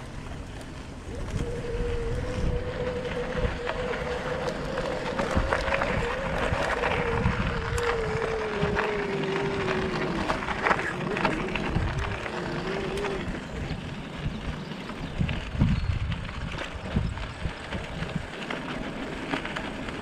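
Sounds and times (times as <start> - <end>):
wind on microphone: 0.0 - 20.0
electric bike motor whining: 0.1 - 20.0.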